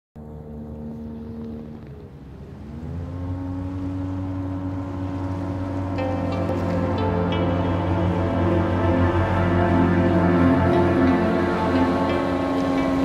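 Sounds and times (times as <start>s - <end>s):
motorboat engine running: 0.2s - 13.0s.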